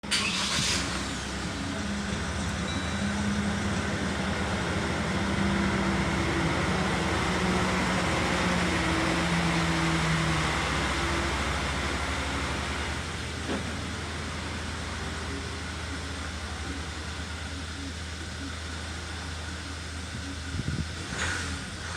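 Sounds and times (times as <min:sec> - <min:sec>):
van engine running: 0:00.0 - 0:21.9.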